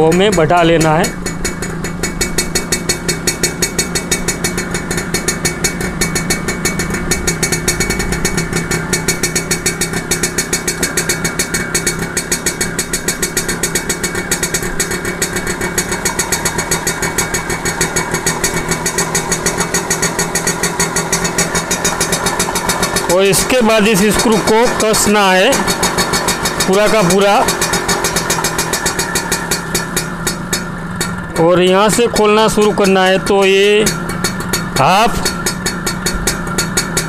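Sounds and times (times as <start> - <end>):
two-stroke moped engine idling: 0.0 - 37.0.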